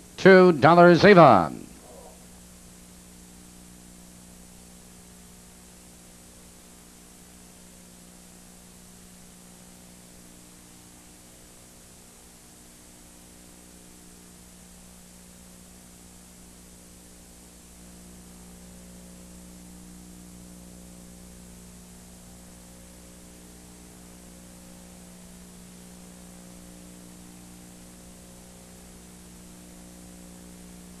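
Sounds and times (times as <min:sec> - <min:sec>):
low electrical hum: 0:00.0 - 0:31.0
tape hiss: 0:00.0 - 0:31.0.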